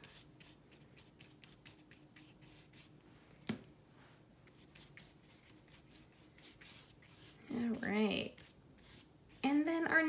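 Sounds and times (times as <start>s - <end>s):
paintbrush swishing on paper: 0.0s - 3.0s, 4.4s - 9.9s.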